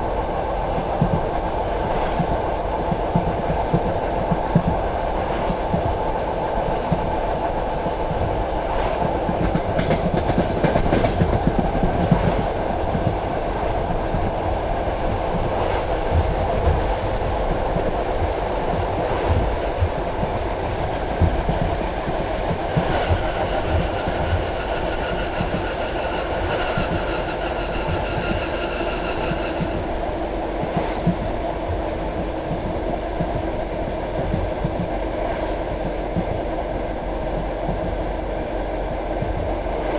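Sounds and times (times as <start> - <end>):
train wheels rumbling on rails: 0.0 - 39.9
rail joint clicks and knocks: 0.7 - 38.1.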